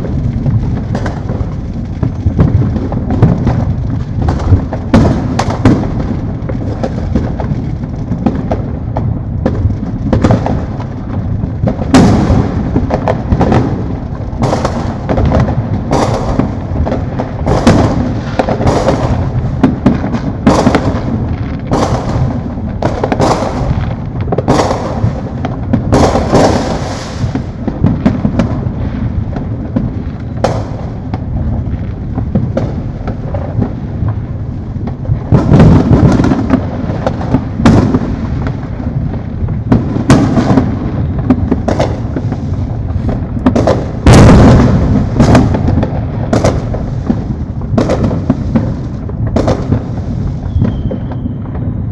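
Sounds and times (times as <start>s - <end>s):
distant fireworks booms: 0.0s - 51.9s
fireworks bangs and pops: 0.0s - 51.9s.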